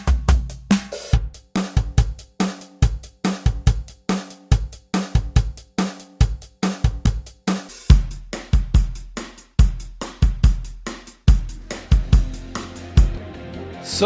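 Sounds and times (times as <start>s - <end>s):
programmed drum beat: 0.0s - 14.0s.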